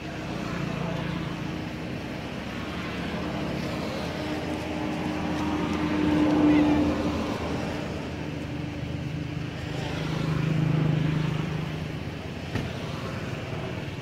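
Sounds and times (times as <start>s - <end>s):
passing vehicle engine hum: 0.0s - 14.0s.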